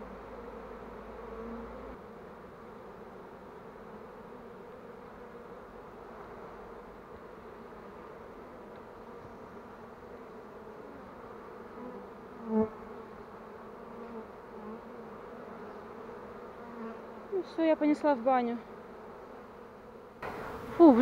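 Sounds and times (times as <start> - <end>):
bee swarm buzzing: 0.0 - 21.0
loud close bee buzz: 0.0 - 21.0.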